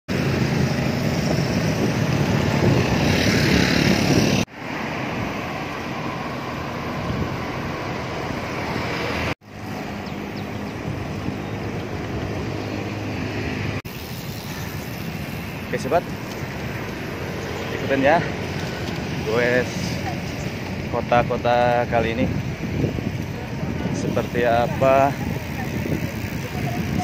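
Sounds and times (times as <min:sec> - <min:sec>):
road noise: 0:00.1 - 0:27.0
wind rushing over microphone: 0:00.1 - 0:27.0.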